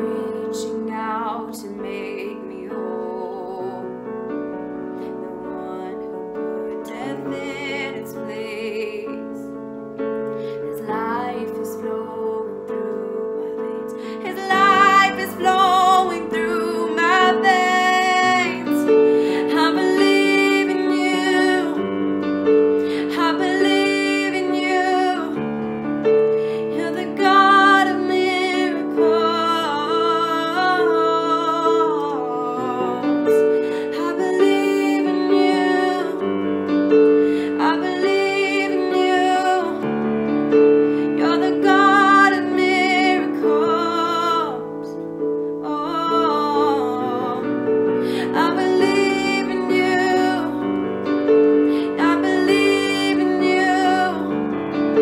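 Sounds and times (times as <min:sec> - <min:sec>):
woman singing with vibrato: 0:00.0 - 0:04.1, 0:05.0 - 0:09.5, 0:10.4 - 0:25.6, 0:26.4 - 0:54.4
piano chords: 0:00.0 - 0:55.0.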